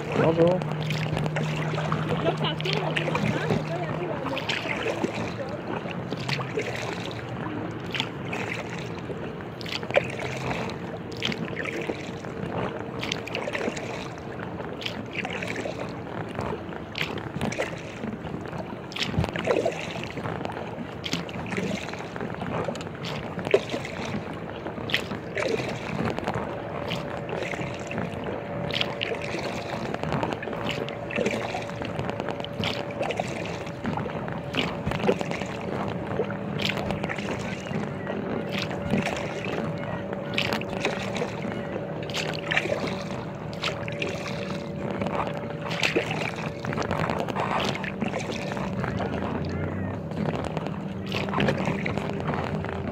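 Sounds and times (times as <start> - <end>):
paddle blades splashing: 0.0 - 52.9
water sloshing against hull: 0.0 - 52.9.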